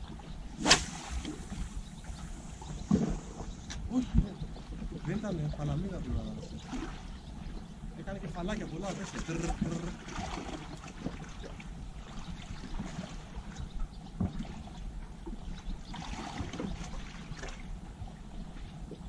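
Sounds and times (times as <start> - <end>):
small waves lapping on shore: 0.0 - 7.3, 7.9 - 13.6, 15.4 - 17.8
low wind rumble on microphone: 0.0 - 19.0.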